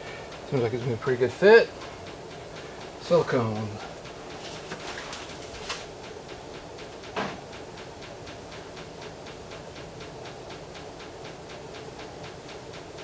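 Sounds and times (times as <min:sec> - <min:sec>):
low background hum: 0:00.0 - 0:13.0
rapid even ticking: 0:00.0 - 0:13.0.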